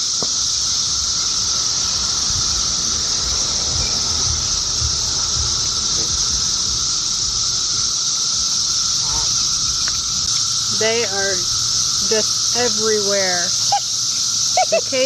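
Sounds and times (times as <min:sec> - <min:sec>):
cicadas droning: 0:00.0 - 0:15.0
low steady whine: 0:00.0 - 0:15.0.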